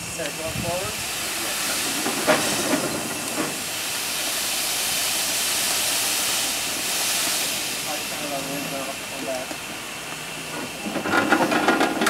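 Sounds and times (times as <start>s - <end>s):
steam roller hissing steam: 0.0s - 12.0s.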